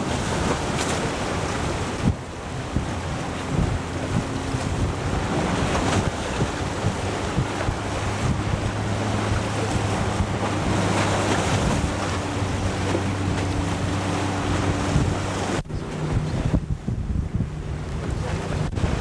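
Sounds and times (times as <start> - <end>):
water washing along hull: 0.0 - 19.0
wind buffeting microphone: 0.0 - 19.0
low hum: 2.1 - 19.0.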